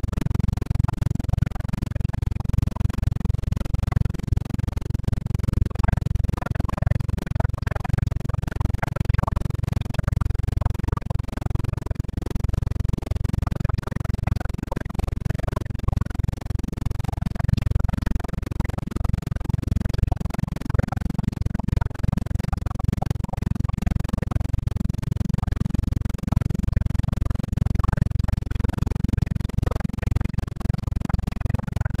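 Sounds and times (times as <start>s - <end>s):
helicopter engine and rotor noise: 0.0s - 32.0s.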